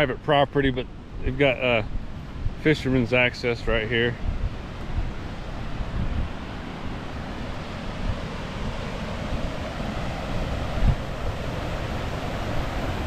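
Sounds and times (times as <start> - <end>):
river and waterfall rushing: 0.0 - 13.0
wind buffeting microphone: 0.0 - 13.0.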